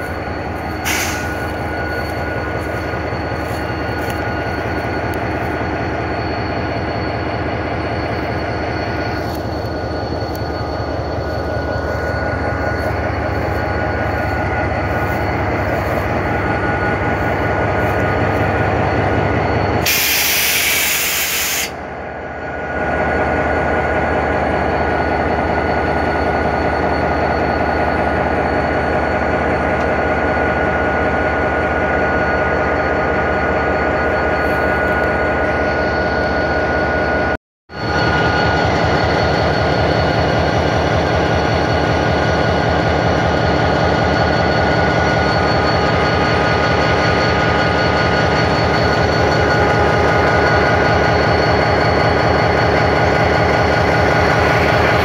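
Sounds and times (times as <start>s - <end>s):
diesel locomotive engine throbbing: 0.0s - 55.0s
steady high whine: 0.0s - 55.0s.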